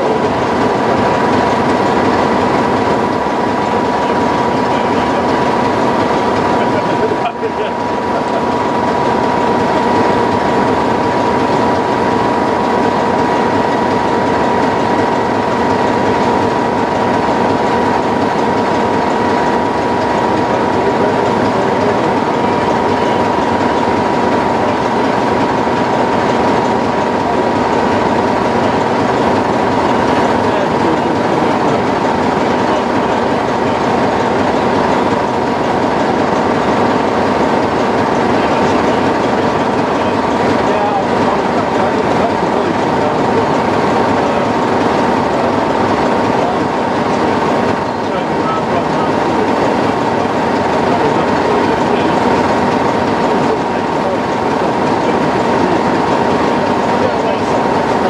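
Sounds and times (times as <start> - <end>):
diesel locomotive engine idling: 0.0 - 58.0
high engine whine: 0.0 - 58.0.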